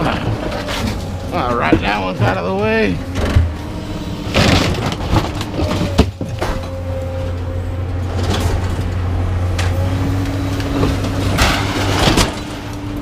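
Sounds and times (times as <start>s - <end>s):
scrap metal clanking and scraping: 0.0s - 7.4s, 8.0s - 9.9s, 10.5s - 12.8s
steady low hum: 0.0s - 13.0s.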